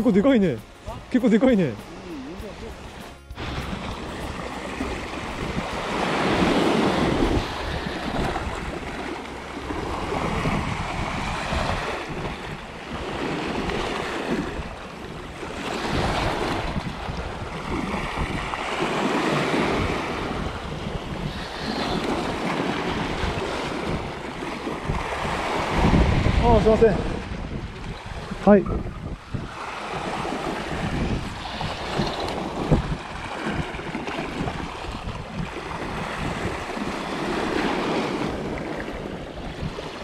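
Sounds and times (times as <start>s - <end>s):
waves washing over rocks: 0.0s - 40.0s
wind buffeting microphone: 0.0s - 40.0s.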